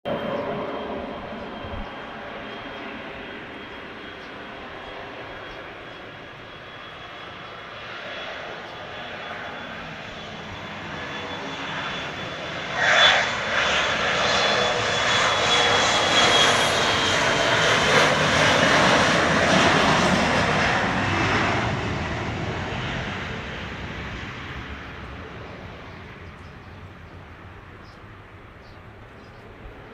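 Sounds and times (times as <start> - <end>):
jet engines roaring at takeoff: 0.1 - 29.9.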